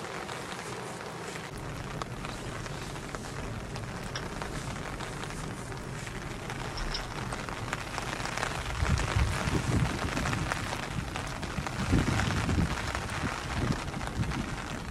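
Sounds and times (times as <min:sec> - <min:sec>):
heavy rain on car roof: 0:00.0 - 0:14.9
raindrop ticks: 0:00.0 - 0:14.9.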